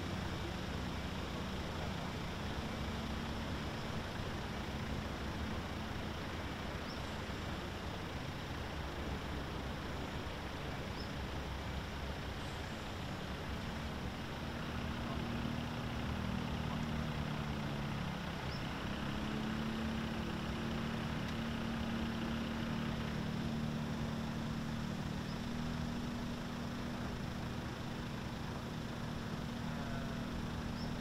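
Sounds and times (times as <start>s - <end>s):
engine running at low revs: 0.0s - 31.0s.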